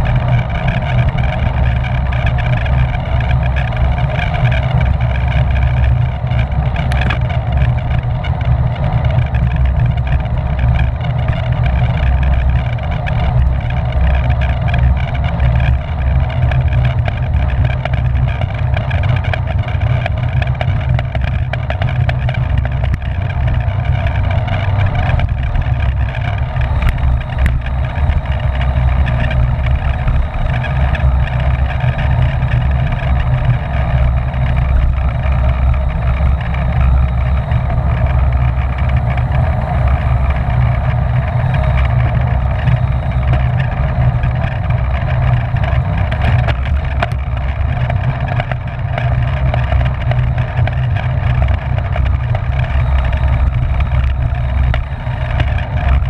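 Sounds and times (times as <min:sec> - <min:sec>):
bicycle tyres on road: 0:00.0 - 0:56.0
wind rushing over microphone: 0:00.0 - 0:56.0.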